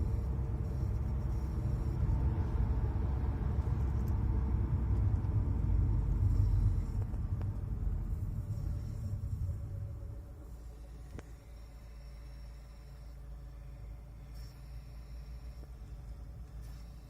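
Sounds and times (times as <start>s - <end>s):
low rumble in car cabin: 0.0s - 17.0s.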